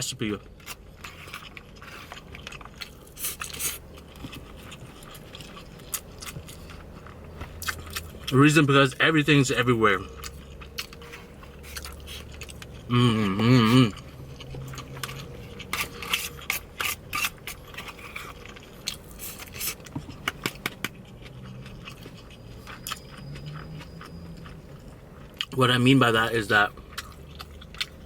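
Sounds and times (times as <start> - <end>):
chewing and mouth sounds: 0.2 - 28.0.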